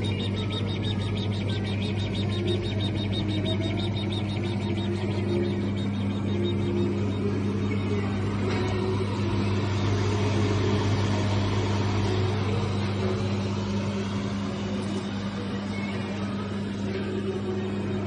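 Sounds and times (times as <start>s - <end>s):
laser cutter humming and rushing: 0.0s - 18.0s.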